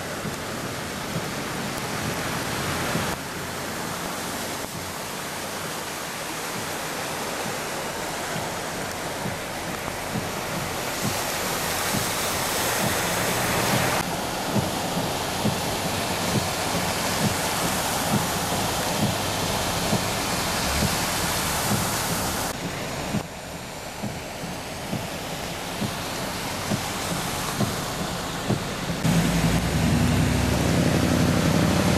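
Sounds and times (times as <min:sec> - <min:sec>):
cars splashing through flood water: 0:00.0 - 0:31.9
heavy rain: 0:00.0 - 0:31.9.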